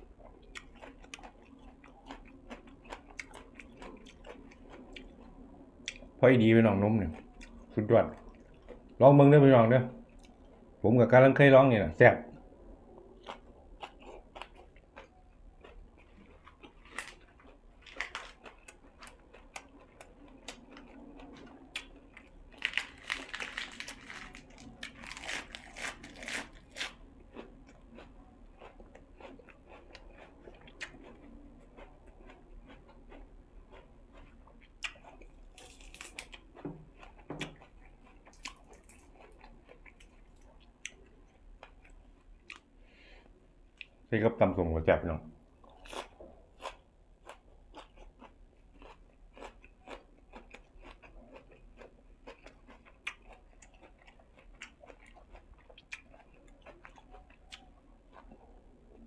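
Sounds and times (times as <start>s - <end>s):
person chewing food crunching: 0.0s - 10.8s, 12.6s - 44.1s, 45.5s - 59.0s.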